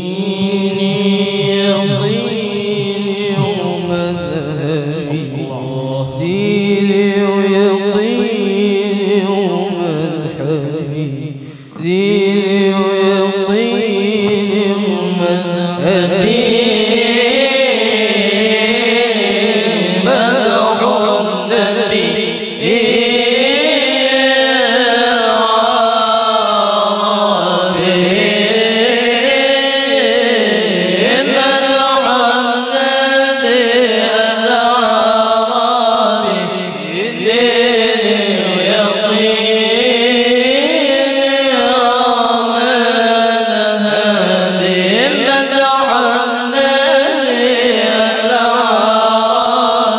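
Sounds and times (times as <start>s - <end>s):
person chanting through loudspeakers: 0.0s - 49.9s.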